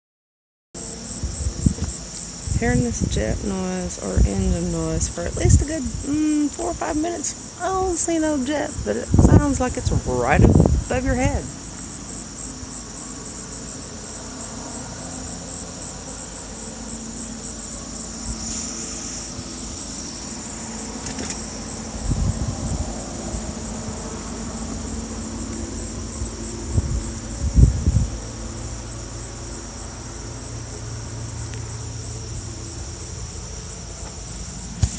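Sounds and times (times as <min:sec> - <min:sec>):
high-pitched insect chorus: 0:00.8 - 0:34.9
low steady drone: 0:00.8 - 0:34.9.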